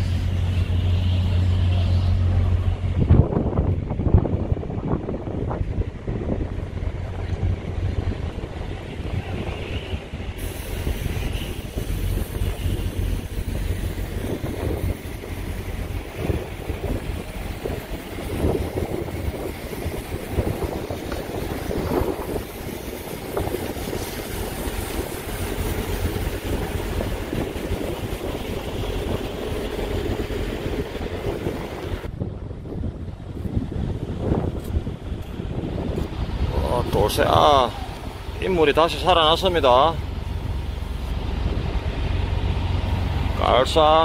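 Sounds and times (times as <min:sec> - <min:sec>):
wind noise on microphone: 0:00.0 - 0:43.4.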